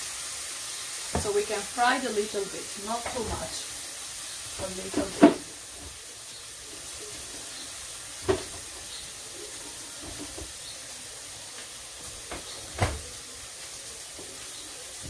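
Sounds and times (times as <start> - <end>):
eggs frying in a pan: 0.0 - 15.0.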